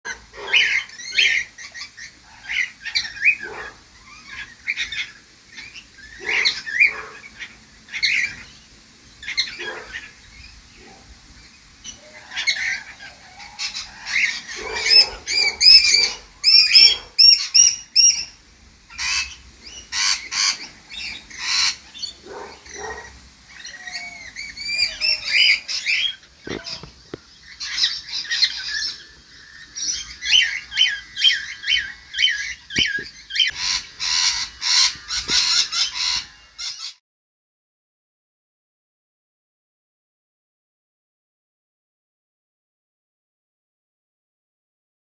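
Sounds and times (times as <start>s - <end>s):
birds squawking and chirping: 0.1s - 37.0s.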